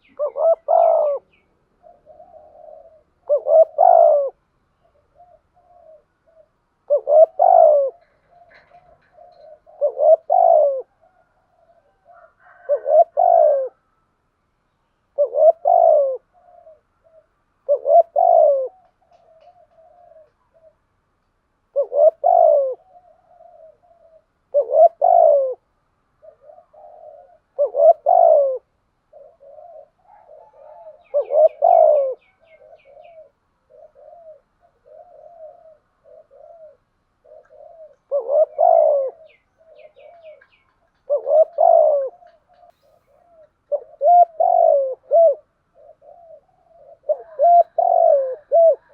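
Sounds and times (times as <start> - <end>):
doves cooing: 0.0 - 14.1, 15.1 - 21.0, 21.6 - 48.9.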